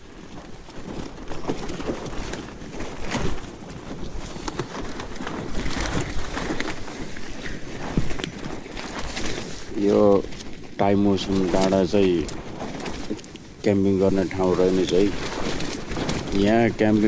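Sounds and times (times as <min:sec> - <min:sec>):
tent fabric flapping: 0:00.0 - 0:17.0.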